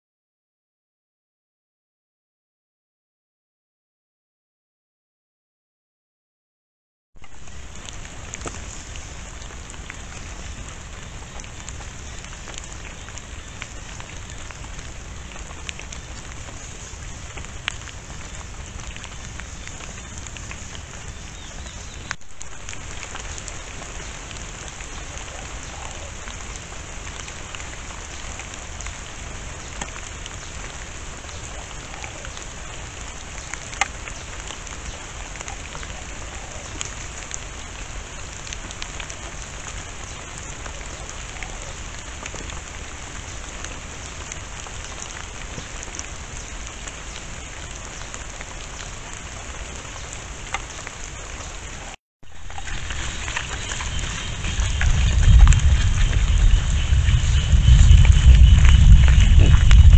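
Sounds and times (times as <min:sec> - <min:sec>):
rain pattering on foliage: 0:07.2 - 0:59.9.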